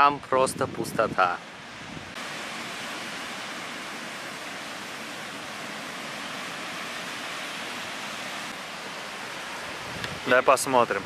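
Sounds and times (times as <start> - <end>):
ocean surf rushing: 0.8 - 11.0.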